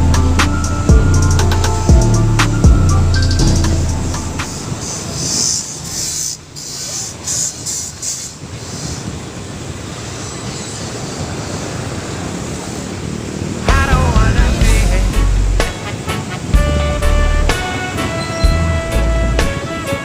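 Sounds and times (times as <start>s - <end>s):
rushing wind: 0.0s - 20.0s
vehicle road noise: 0.0s - 20.0s.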